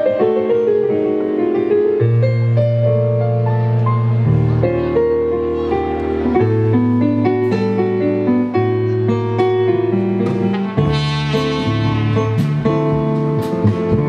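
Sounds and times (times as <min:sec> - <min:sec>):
stage piano chords and melody: 0:00.0 - 0:14.0
electric bass notes: 0:02.0 - 0:14.0.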